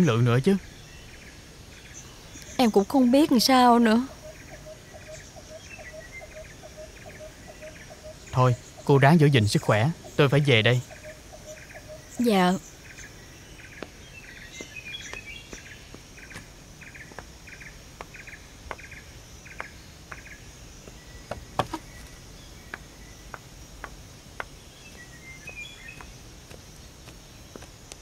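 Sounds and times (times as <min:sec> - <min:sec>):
bird calls: 0:00.0 - 0:28.0
insects chirping: 0:00.0 - 0:28.0.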